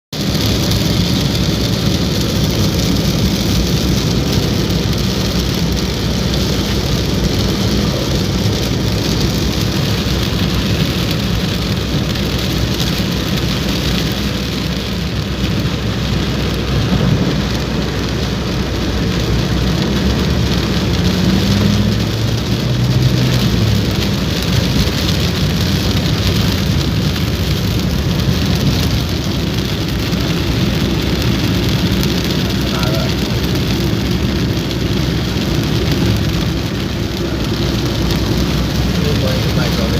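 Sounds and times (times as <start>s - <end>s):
heavy rain: 0.1s - 39.9s
vehicle engine running low: 0.1s - 39.9s.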